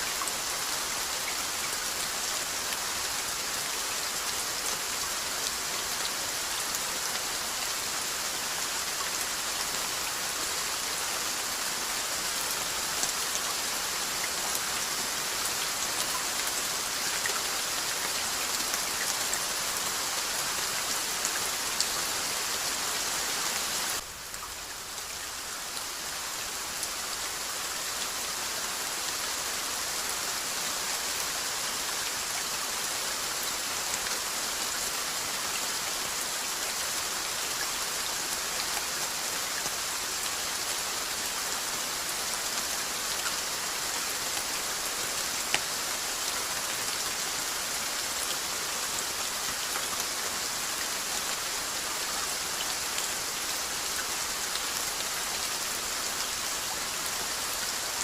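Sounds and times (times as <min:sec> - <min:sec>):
rain hiss on a surface: 0:00.0 - 0:58.0.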